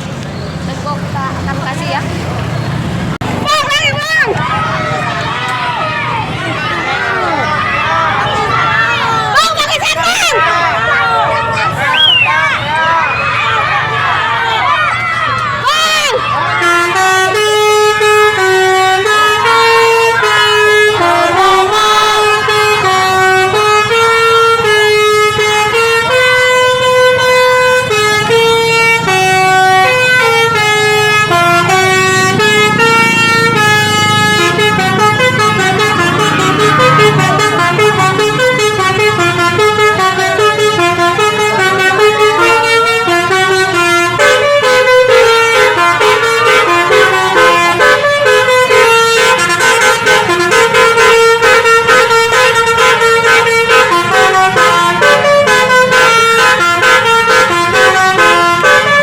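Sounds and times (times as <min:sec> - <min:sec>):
bus engine rumble: 0:00.0 - 0:59.0
multi-tone bus horn melody: 0:03.2 - 0:59.0.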